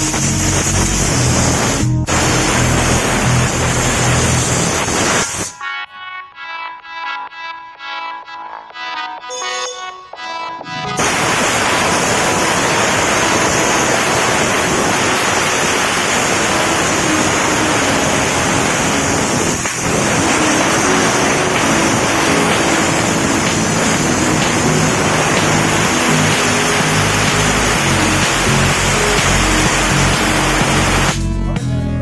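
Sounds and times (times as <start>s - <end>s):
steam jet hissing: 0.0s - 5.6s, 11.0s - 31.2s.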